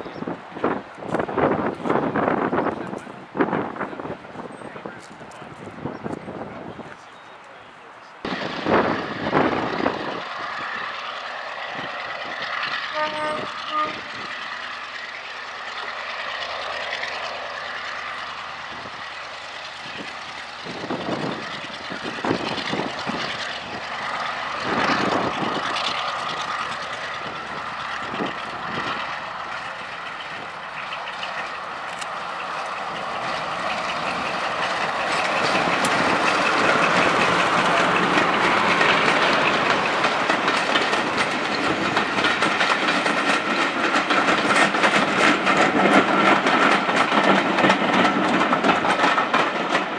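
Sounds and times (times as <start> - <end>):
diesel locomotive engine working hard: 0.0 - 49.9.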